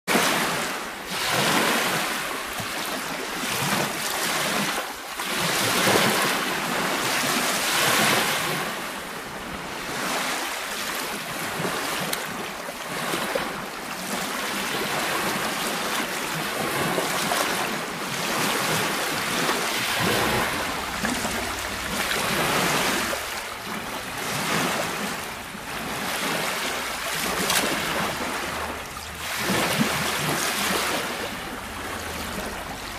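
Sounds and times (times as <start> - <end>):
waves breaking on sandy shore: 0.1 - 32.9.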